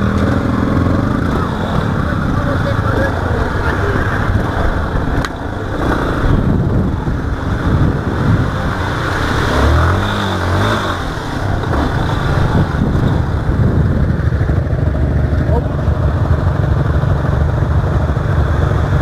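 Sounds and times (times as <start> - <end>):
motorcycle engine revving: 0.0 - 19.0
motorcycle engine running: 0.0 - 19.0.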